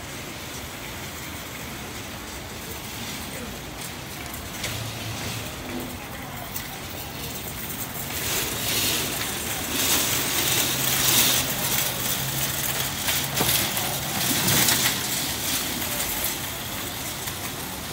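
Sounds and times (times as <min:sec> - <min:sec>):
metal shopping carts rattling: 0:00.0 - 0:17.9.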